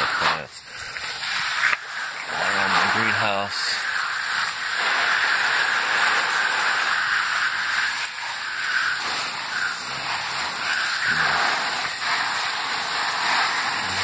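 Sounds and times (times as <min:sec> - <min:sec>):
hose water spraying on plastic: 0:00.0 - 0:14.0.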